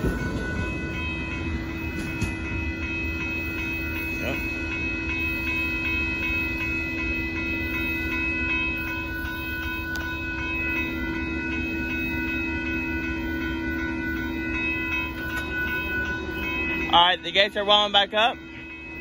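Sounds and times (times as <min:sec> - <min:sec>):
crossing warning bells ringing: 0:00.0 - 0:19.0
passing train rumble: 0:00.0 - 0:19.0.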